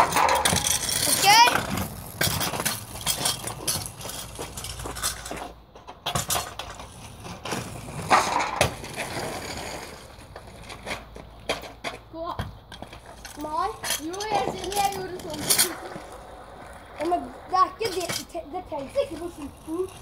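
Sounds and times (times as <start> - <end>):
scooter wheels crunching on gravel: 0.0 - 5.6, 6.2 - 20.0.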